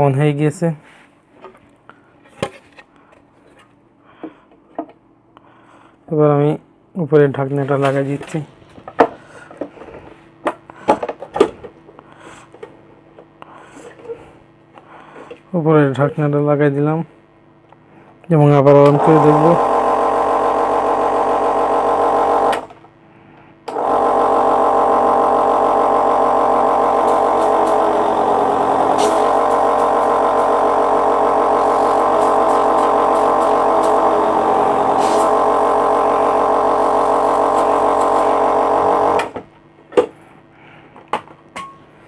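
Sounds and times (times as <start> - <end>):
compressor humming: 7.8 - 42.0.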